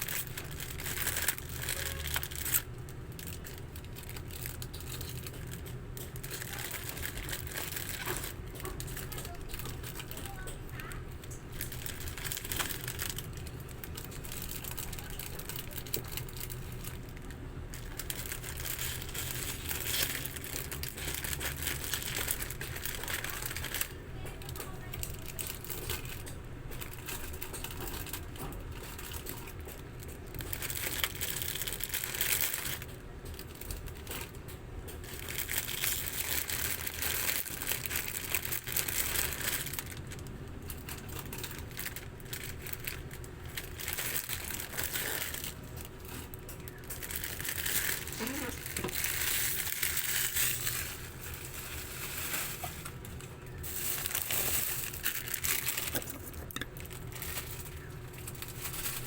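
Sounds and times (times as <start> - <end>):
plastic packaging crinkling: 0.0 - 59.0.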